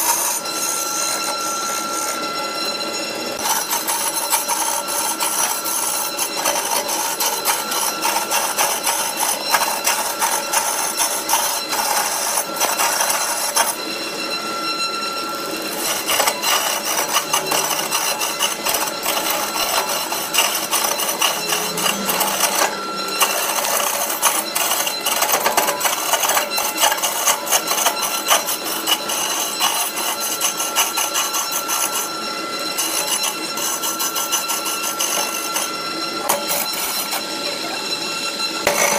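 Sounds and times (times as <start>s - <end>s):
gouge scraping spinning wood: 0.0s - 37.7s, 38.5s - 38.9s.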